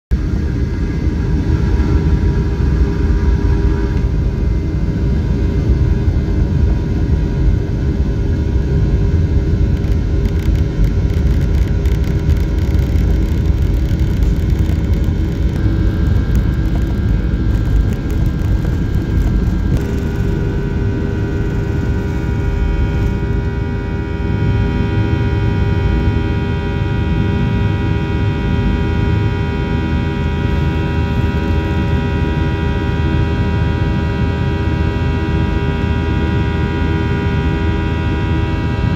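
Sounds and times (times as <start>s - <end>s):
wheels rumbling on runway: 0.1s - 38.9s
jet engines whining: 0.2s - 35.5s.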